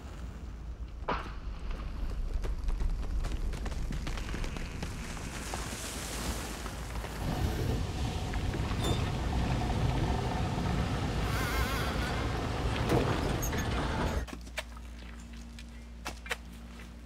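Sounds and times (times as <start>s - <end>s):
vehicle rumbling: 0.0s - 14.3s.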